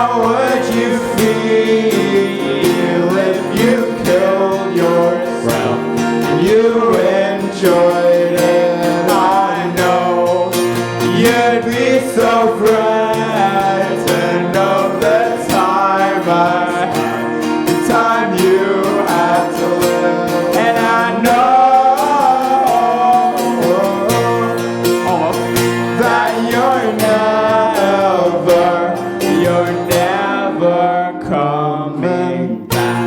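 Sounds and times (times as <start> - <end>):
acoustic guitar: 0.0 - 33.0
person singing: 0.0 - 33.0.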